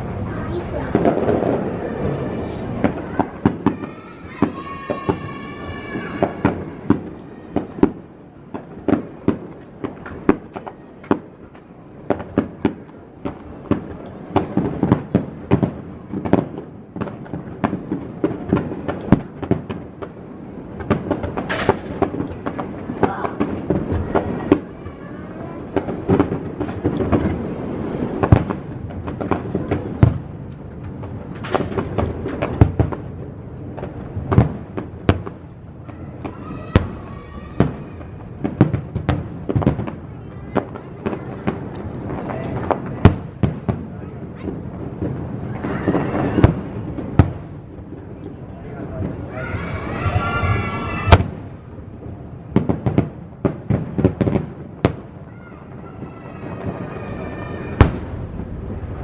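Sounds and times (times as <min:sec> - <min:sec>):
continuous rumble: 0:00.0 - 0:59.0
fireworks bangs and crackles: 0:00.0 - 0:59.0.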